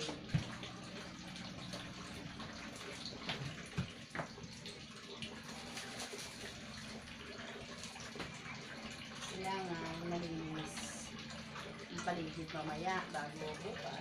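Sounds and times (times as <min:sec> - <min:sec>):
water splashing in a basin: 0:00.0 - 0:14.0.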